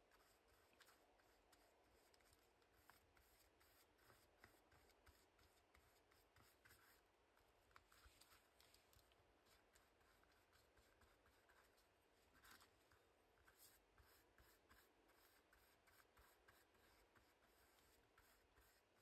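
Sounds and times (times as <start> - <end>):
paintbrush strokes on paper: 0.0 - 19.0.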